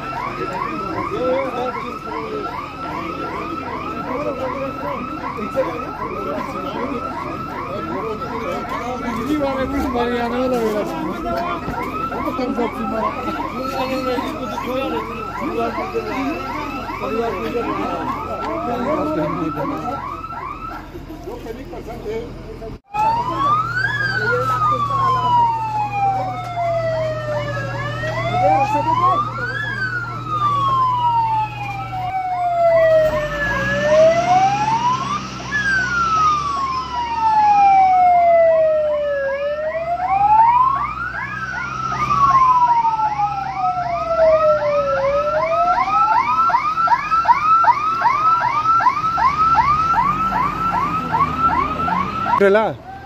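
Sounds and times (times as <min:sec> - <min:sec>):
fast warbling siren: 0:00.0 - 0:21.4, 0:22.9 - 0:53.0
slow wailing siren: 0:00.0 - 0:21.4, 0:22.8 - 0:53.0.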